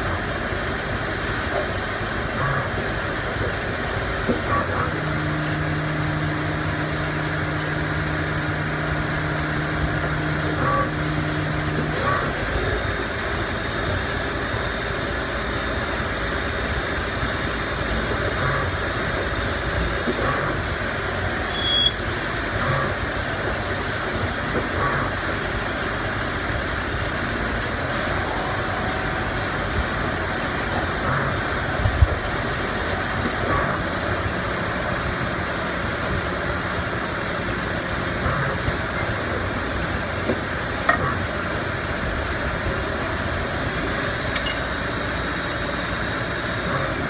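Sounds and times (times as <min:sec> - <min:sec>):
lathe machining: 0:00.0 - 0:47.0.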